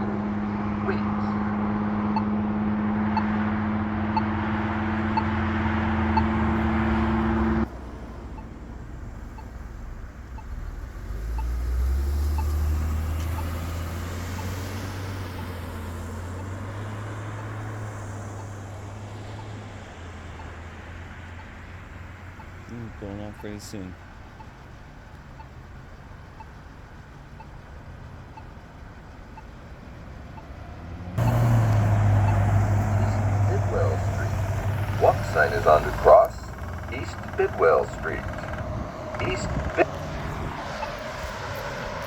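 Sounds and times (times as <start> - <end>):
intersection traffic: 0.0 - 42.0
loud low vehicle hum: 0.0 - 42.0
vehicle low rumble: 0.0 - 42.0
pedestrian button locator tone ticking: 2.1 - 2.4, 3.1 - 3.4, 4.0 - 15.7, 20.3 - 42.0.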